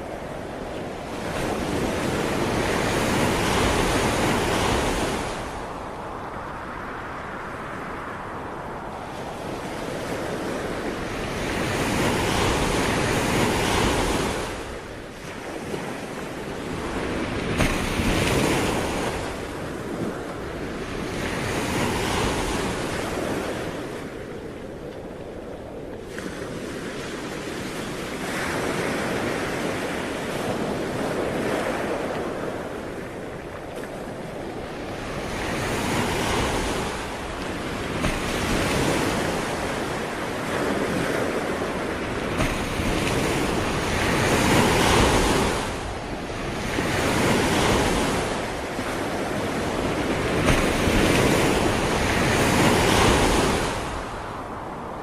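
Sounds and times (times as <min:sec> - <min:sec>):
ocean waves breaking: 0:00.0 - 0:55.0
wind rumbling on microphone: 0:00.0 - 0:55.0.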